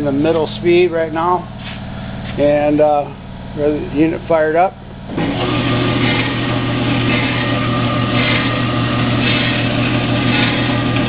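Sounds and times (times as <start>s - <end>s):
band saw motor humming: 0.0s - 11.0s.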